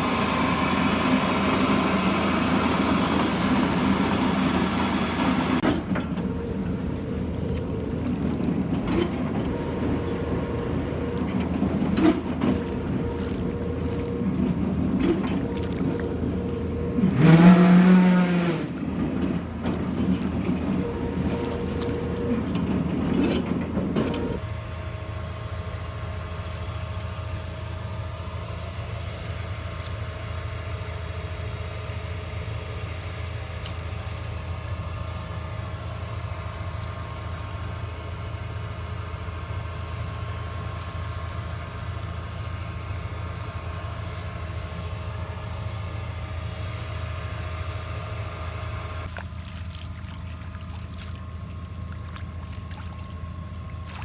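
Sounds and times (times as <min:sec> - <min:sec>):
piling machine engine humming: 0:00.0 - 0:54.0.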